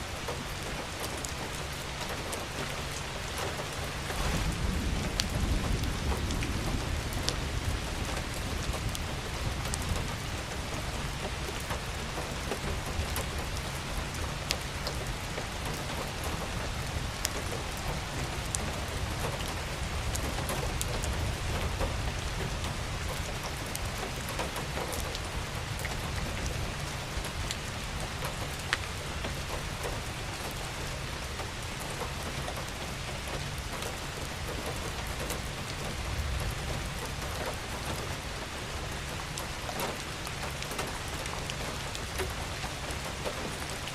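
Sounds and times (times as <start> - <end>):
steady rain hiss: 0.0 - 43.9
raindrops ticking: 0.2 - 43.9.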